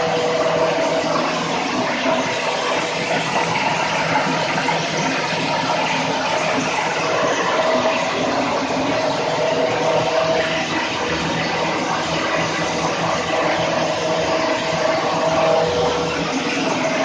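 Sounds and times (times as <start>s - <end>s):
hammer mill rushing noise: 0.0s - 17.0s.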